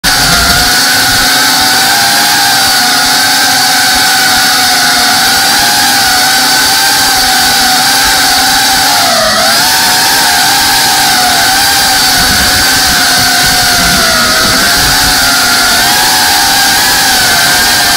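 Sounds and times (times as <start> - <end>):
drone motors whining: 0.0 - 17.9.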